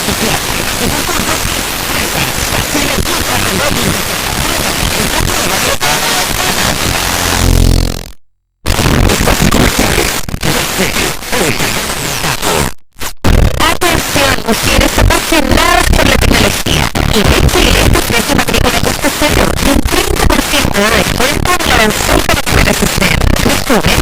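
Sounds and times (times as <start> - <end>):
garbled radio speech and music: 0.0 - 8.1, 8.7 - 24.0
radio static hiss: 0.0 - 24.0.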